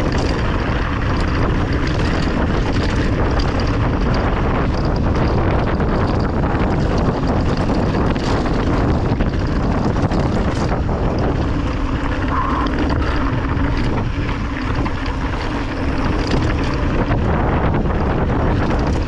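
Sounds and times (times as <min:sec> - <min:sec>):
knocks and rattles: 0:00.0 - 0:19.0
low rumble: 0:00.0 - 0:19.0
wind buffeting microphone: 0:00.0 - 0:19.0.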